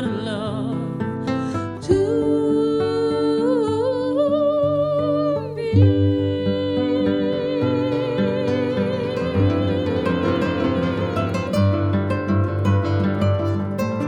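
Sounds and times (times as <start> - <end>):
classical guitars plucking: 0.0 - 14.0
soprano singing wordless line: 0.0 - 14.0.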